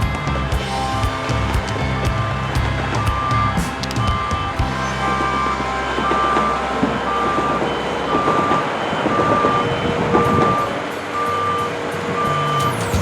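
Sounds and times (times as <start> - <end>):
engine noise: 0.0 - 13.0
reversing alarm beeping: 0.4 - 13.0.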